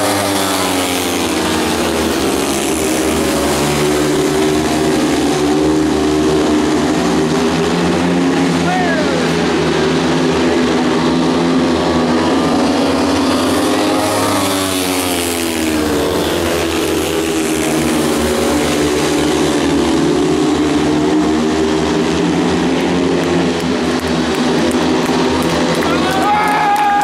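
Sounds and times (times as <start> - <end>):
motorcycle engines racing: 0.0 - 27.0.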